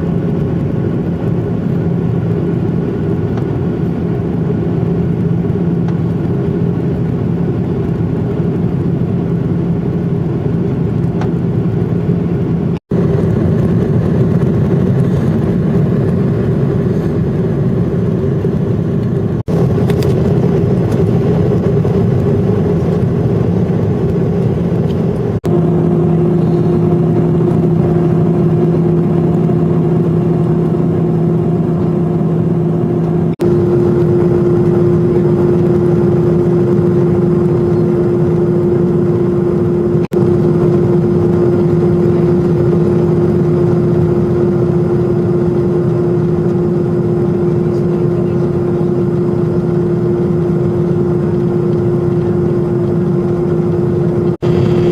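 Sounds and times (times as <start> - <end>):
jet airliner cabin engine noise: 0.0 - 54.9
steady hum tones: 0.0 - 54.9.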